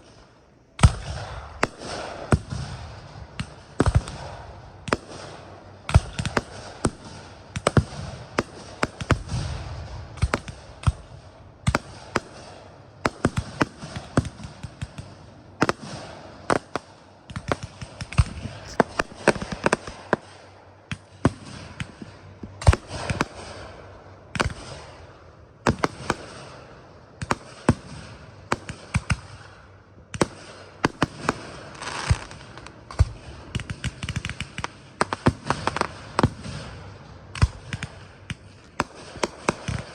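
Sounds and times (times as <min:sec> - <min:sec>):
fireworks bangs: 0:00.0 - 0:39.9
fireworks crackle and hiss: 0:00.0 - 0:39.9.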